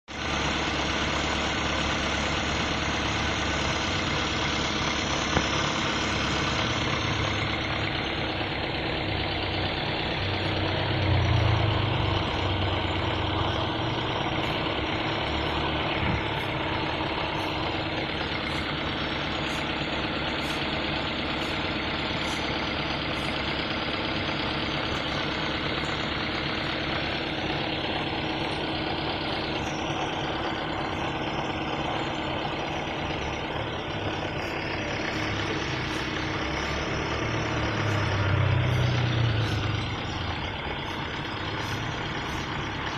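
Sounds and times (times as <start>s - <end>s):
motor running: 1.3s - 42.9s.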